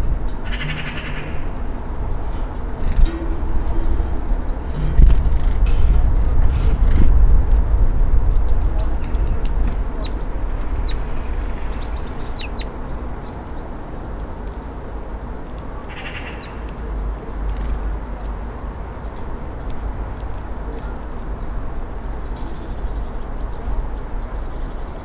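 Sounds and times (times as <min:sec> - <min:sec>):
steady low rumble: 0:00.0 - 0:24.8
songbirds chirping: 0:00.0 - 0:25.0.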